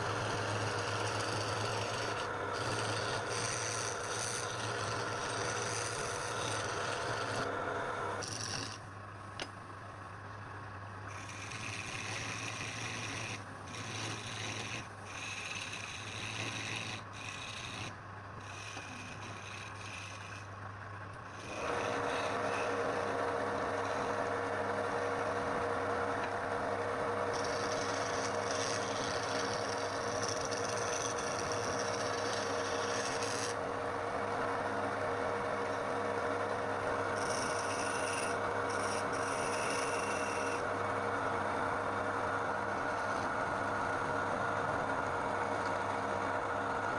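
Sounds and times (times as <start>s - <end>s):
power tool rasping wood: 0.0s - 8.8s, 11.1s - 20.5s, 21.2s - 33.7s, 35.3s - 40.7s, 42.6s - 44.2s.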